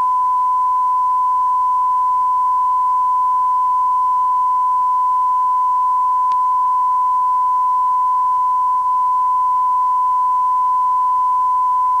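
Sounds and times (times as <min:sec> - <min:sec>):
electronic test tone beep: 0:00.0 - 0:12.0.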